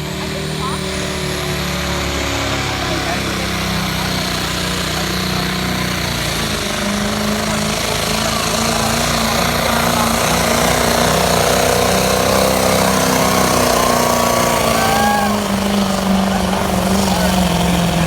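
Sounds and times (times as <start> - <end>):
diesel engine revving hard: 0.0 - 18.0.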